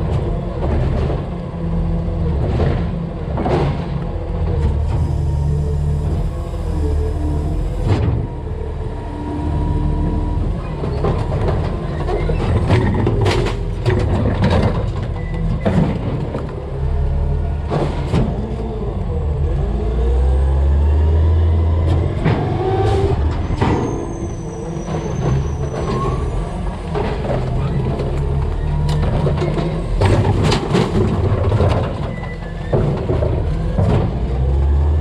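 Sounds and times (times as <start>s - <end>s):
garbage truck engine running: 0.0s - 35.0s.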